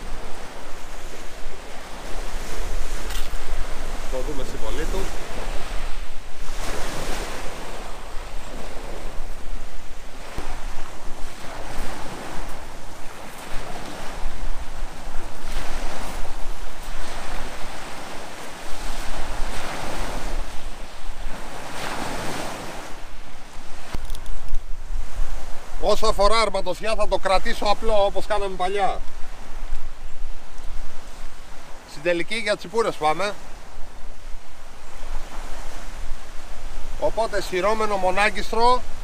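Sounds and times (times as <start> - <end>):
wind rumbling on microphone: 0.0 - 32.6, 33.2 - 39.0
sea waves breaking on shore: 0.0 - 39.0.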